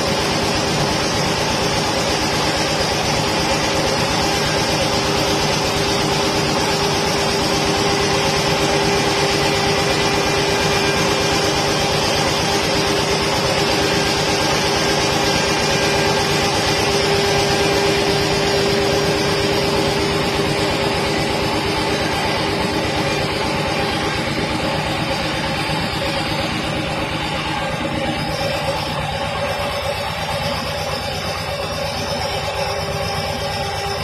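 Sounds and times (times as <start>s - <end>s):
cnc router spindle whine: 0.0s - 34.0s.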